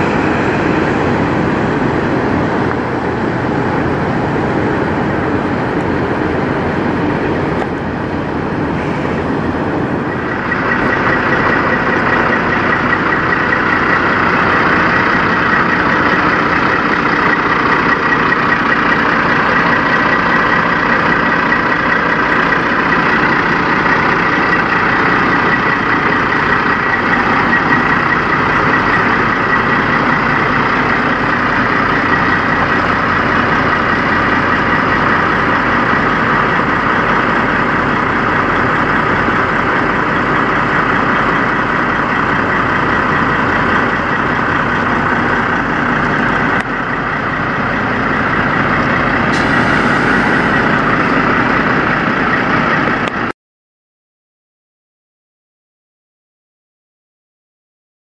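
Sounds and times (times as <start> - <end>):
diesel truck engine idling: 0.0 - 53.3.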